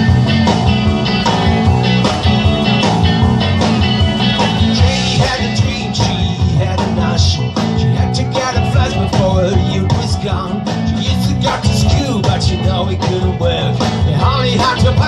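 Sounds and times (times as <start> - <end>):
bass guitar: 0.0 - 15.0
drums with a steady beat: 0.0 - 15.0
electric guitar: 0.0 - 15.0.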